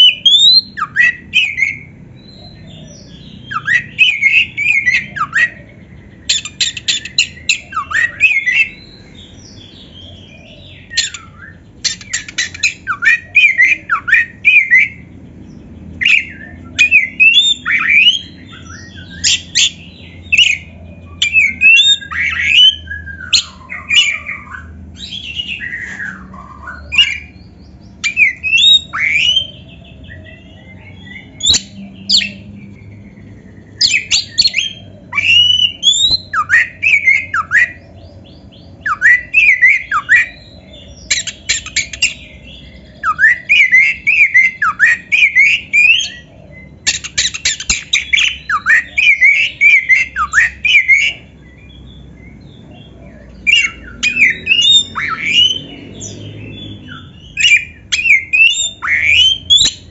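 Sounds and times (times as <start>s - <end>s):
bird singing whistles: 0.0s - 9.0s, 10.1s - 15.1s, 16.0s - 32.5s, 33.7s - 37.9s, 38.5s - 52.5s, 53.3s - 59.9s.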